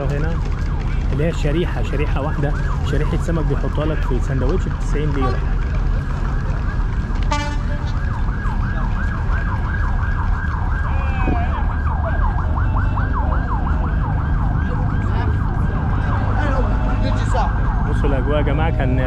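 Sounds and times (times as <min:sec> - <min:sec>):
emergency siren yelping: 0:00.0 - 0:19.0
low traffic rumble: 0:00.0 - 0:19.0.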